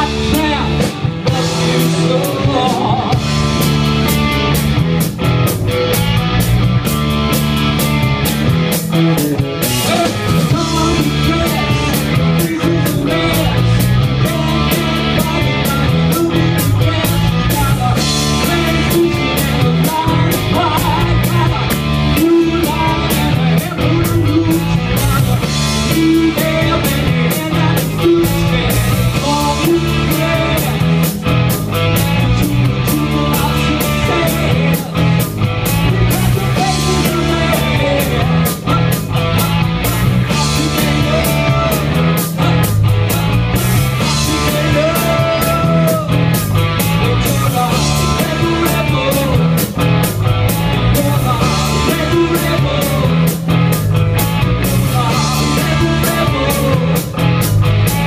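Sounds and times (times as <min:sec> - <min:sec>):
man singing: 0:00.0 - 0:03.4, 0:09.6 - 0:53.6, 0:54.5 - 0:58.0
drum kit beat: 0:00.0 - 0:58.0
electric guitars: 0:00.0 - 0:58.0.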